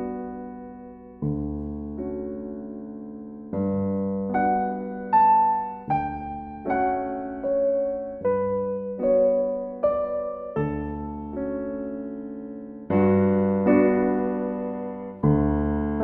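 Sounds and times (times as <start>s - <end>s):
slow solo piano music: 0.0s - 16.0s.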